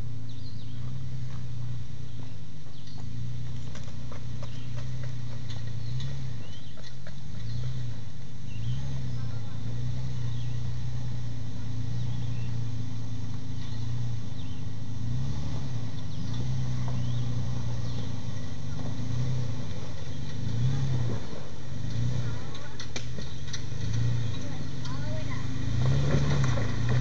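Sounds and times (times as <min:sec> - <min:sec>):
truck engine revving at low revs: 0:00.0 - 0:27.0.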